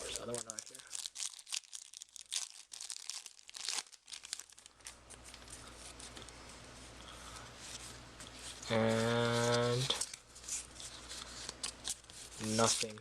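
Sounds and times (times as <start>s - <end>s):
foil wrapper crinkling: 0.0s - 6.3s, 8.5s - 13.0s.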